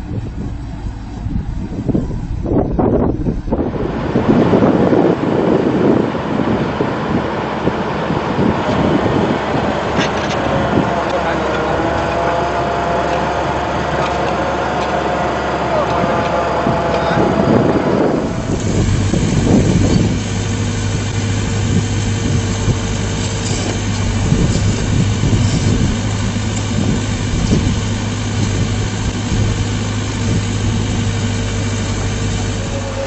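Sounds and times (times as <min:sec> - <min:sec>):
excavator engine humming: 0:00.0 - 0:33.0
hydraulic whine: 0:00.0 - 0:33.0.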